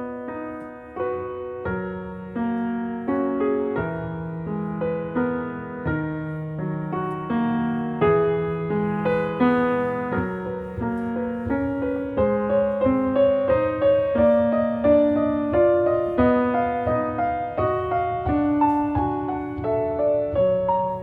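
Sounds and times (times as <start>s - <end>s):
soft piano melody: 0.0s - 21.0s.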